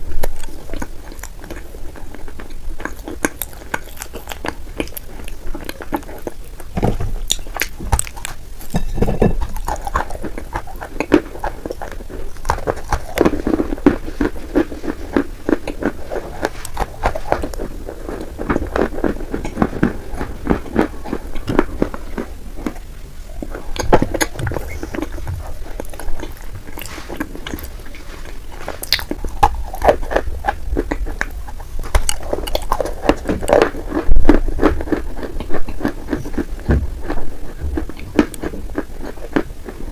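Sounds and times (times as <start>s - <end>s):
close chewing of clay: 0.0s - 39.9s
mouth crackles and clicks: 0.0s - 39.9s.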